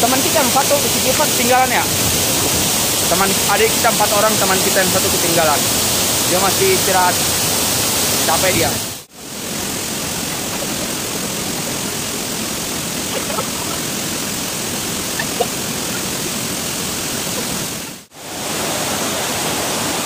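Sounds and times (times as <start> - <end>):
water rushing over rocks: 0.0 - 20.0
waterfall pouring into pool: 0.0 - 20.0.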